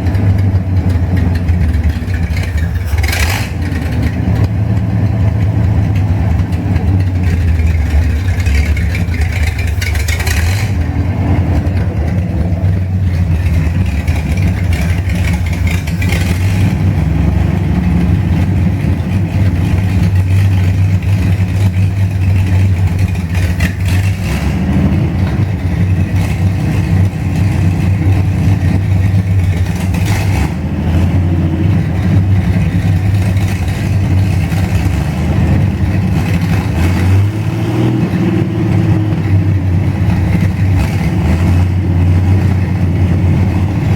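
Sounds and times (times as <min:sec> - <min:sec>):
car engine running: 0:00.0 - 0:43.9.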